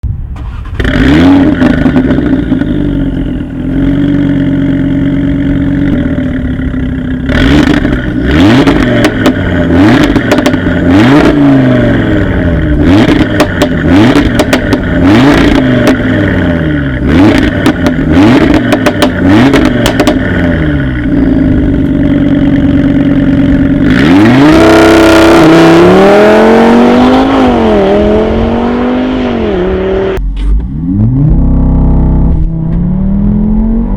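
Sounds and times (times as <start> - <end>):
exhaust cracks: 0.0 - 32.9
car engine idling and revving: 0.0 - 33.9
car accelerating hard: 0.4 - 33.9.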